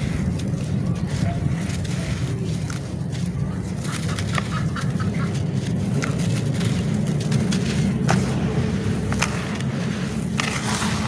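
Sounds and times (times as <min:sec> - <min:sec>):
gritty ticks of falling crumbs: 0:00.0 - 0:11.0
steady low rumble: 0:00.0 - 0:11.0.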